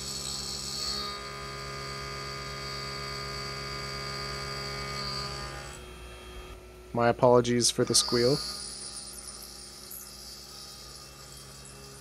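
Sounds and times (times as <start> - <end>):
end mill cutting steel whine: 0.0 - 12.0.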